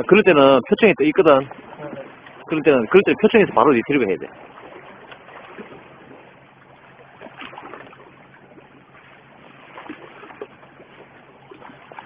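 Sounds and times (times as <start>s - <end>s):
sea water washing against rocks: 0.0s - 12.0s
small water splashes: 0.0s - 12.0s.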